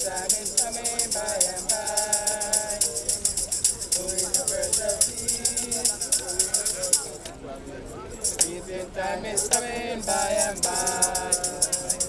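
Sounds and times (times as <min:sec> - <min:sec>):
group singing a hymn: 0:00.0 - 0:12.0
shaker beat: 0:00.0 - 0:12.0.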